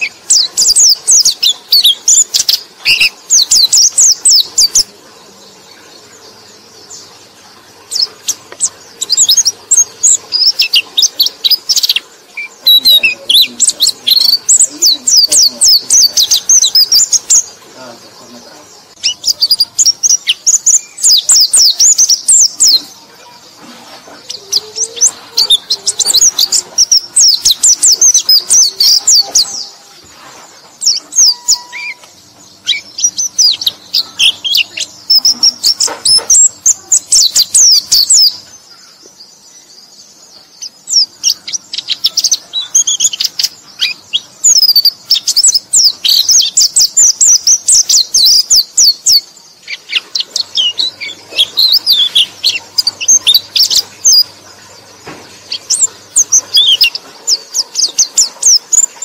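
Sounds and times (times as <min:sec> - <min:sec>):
bird twittering: 0:00.0 - 0:59.0.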